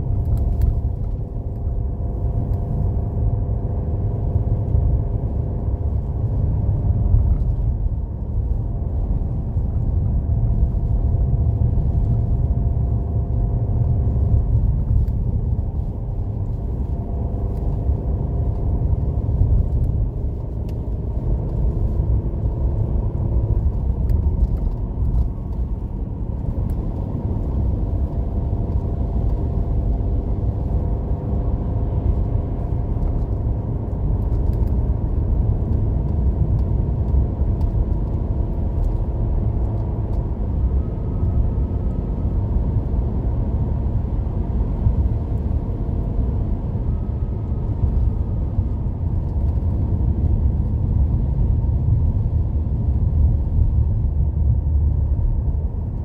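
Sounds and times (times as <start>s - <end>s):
car driving on snow: 0.0s - 56.0s.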